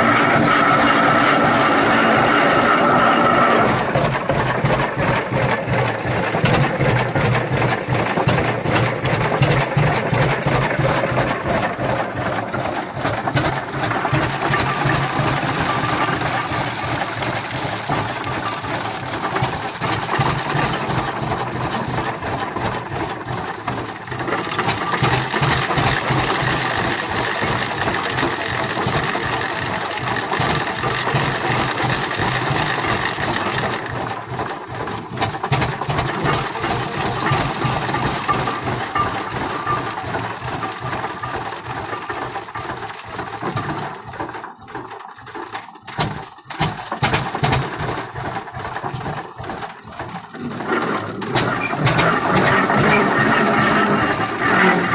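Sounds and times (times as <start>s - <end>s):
tractor engine clattering: 0.0s - 54.9s.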